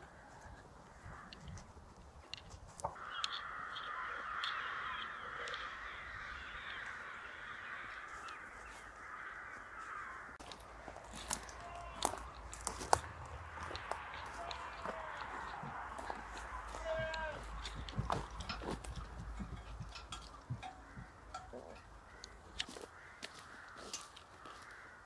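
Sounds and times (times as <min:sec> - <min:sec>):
crows cawing: 0:00.0 - 0:01.7, 0:02.8 - 0:25.0.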